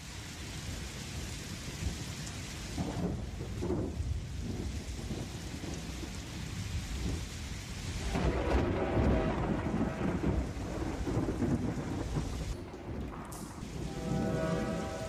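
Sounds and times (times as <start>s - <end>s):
steady rain: 0.0s - 15.0s
rolling thunder: 2.7s - 15.0s.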